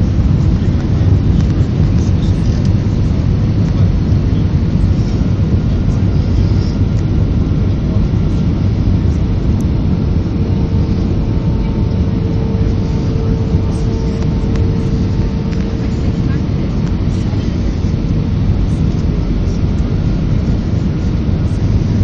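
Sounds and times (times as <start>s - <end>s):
faint steady hum: 0.0s - 22.0s
jet engines and rushing air: 0.0s - 22.0s.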